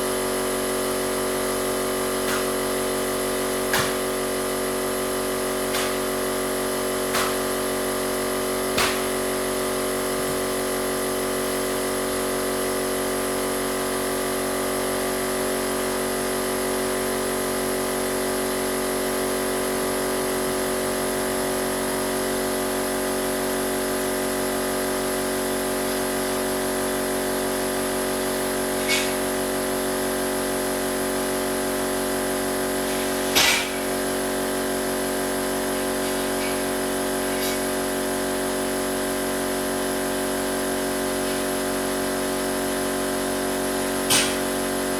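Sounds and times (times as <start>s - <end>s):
small air compressor running: 0.0s - 44.9s.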